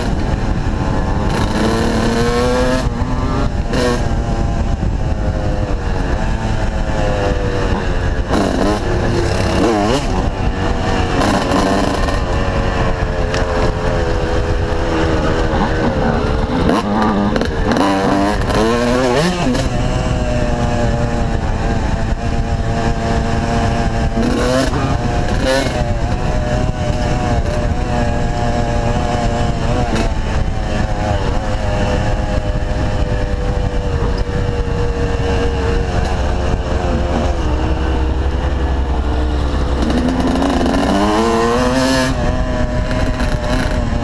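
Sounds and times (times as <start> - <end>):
two-stroke motorcycle engine revving: 0.0 - 44.0.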